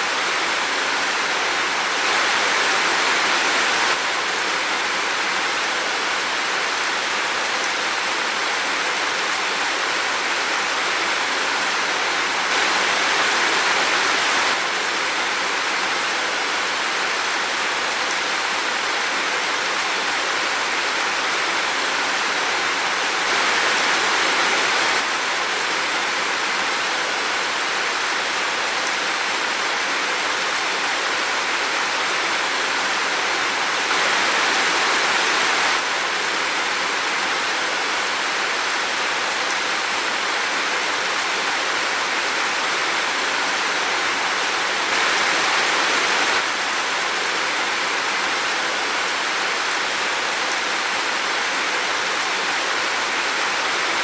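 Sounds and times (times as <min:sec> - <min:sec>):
heavy rain hiss: 0:00.0 - 0:54.0.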